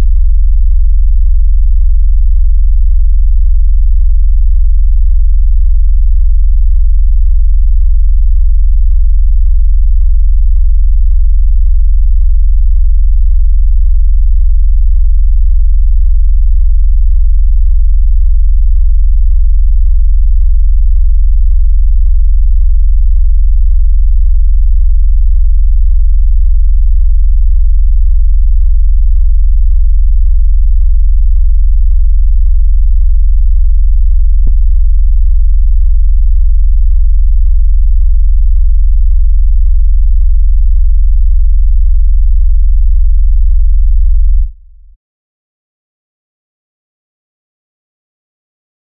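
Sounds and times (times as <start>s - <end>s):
deep electronic sub-bass tone: 0.0s - 45.0s.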